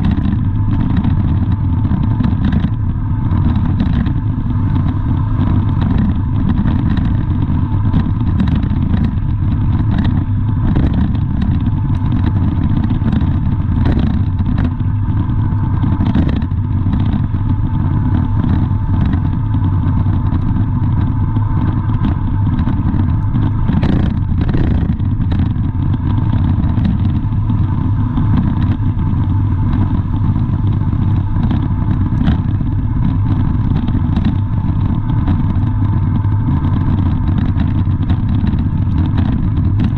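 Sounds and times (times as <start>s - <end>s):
faint constant tone: 0.0s - 39.9s
vehicle engine rumbling: 0.0s - 39.9s.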